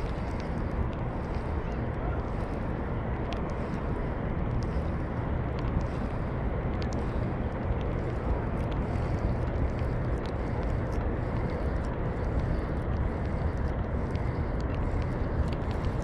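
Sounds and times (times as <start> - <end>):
faint ticks: 0.0 - 16.0
low outdoor rumbling: 0.0 - 16.0.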